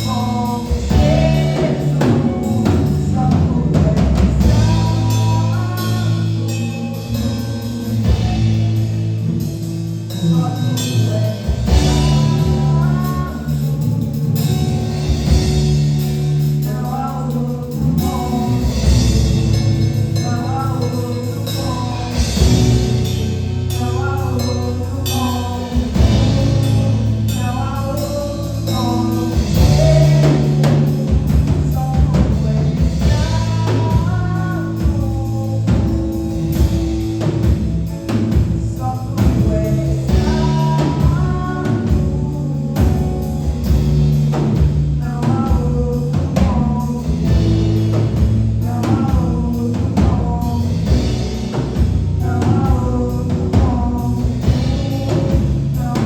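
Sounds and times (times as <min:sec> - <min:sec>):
person singing: 0:00.0 - 0:56.0
worship band playing: 0:00.0 - 0:56.0.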